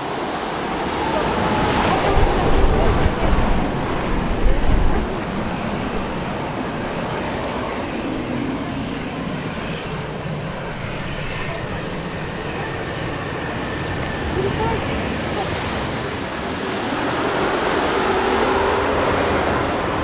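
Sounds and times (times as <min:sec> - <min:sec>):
jet airliner landing roar: 0:00.0 - 0:20.0.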